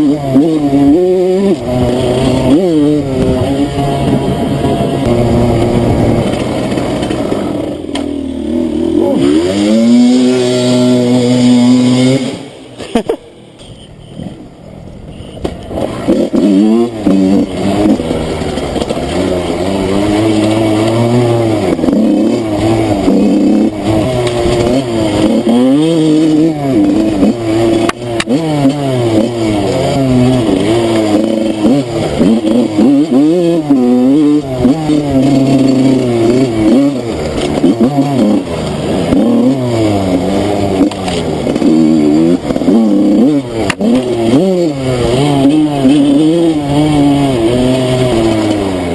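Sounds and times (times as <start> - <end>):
dirt bike engine revving: 0.0 - 13.2, 14.2 - 48.9.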